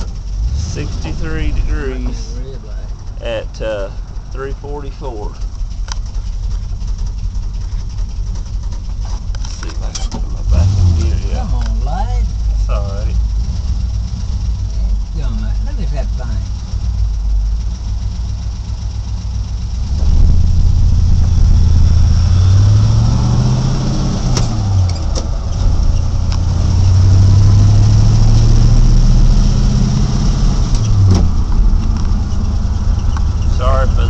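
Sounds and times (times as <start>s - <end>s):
truck engine accelerating: 0.0s - 34.0s.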